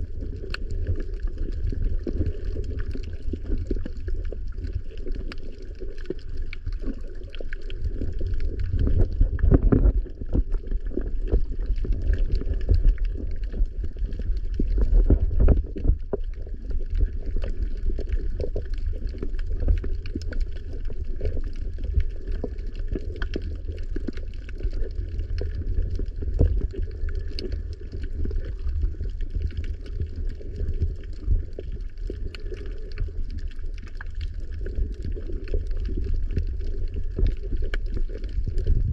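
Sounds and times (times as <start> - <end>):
faint underwater crackling: 0.0 - 38.9
muffled underwater water rumble: 0.0 - 38.9.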